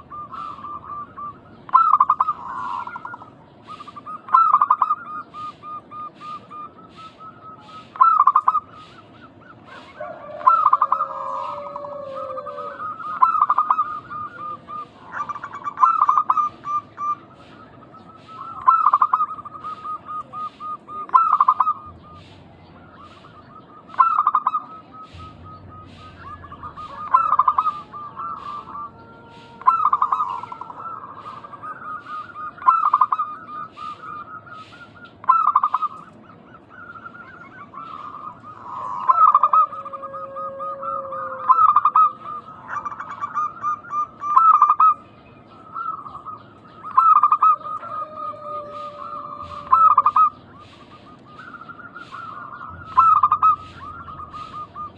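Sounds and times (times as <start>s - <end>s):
doves cooing: 0.0s - 54.9s
lower bird call: 0.0s - 54.9s.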